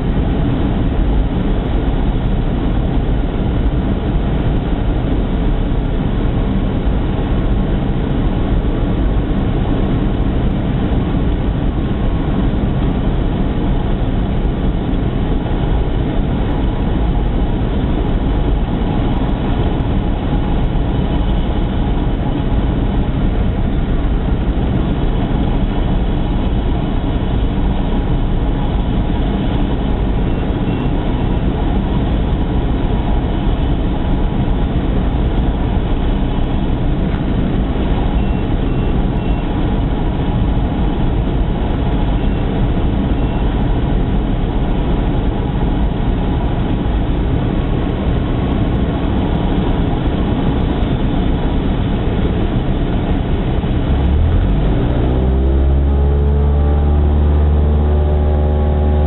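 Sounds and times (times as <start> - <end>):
propeller turning: 0.0 - 59.0.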